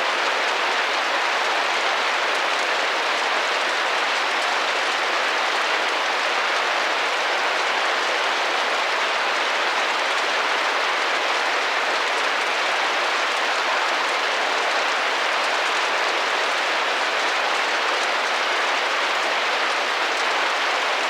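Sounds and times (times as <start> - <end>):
rain drumming on window: 0.0 - 21.0.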